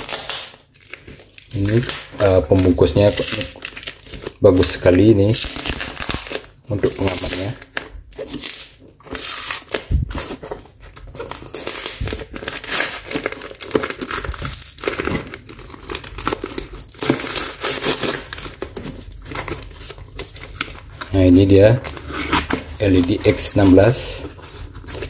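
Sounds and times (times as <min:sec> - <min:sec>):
plastic packaging crinkling and tearing: 0:00.0 - 0:25.0.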